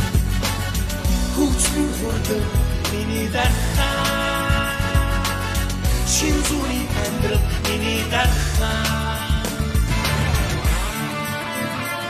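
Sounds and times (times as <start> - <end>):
pop song with steady beat: 0.0 - 12.0.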